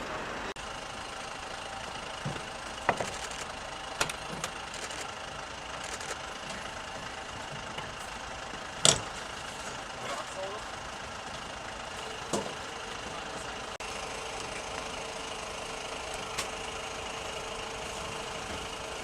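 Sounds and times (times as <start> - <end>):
street noise: 0.0 - 19.0
vehicle engine idling: 0.0 - 19.0.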